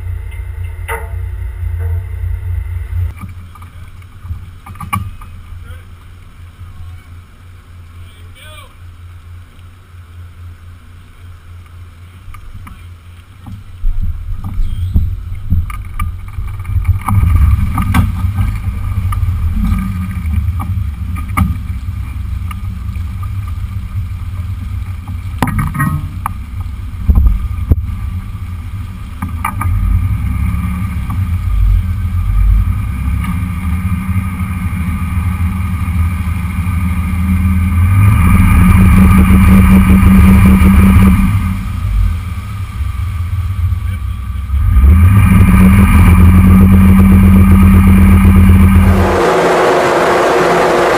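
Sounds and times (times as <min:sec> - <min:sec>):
boat engine idling: 0:00.0 - 0:44.7.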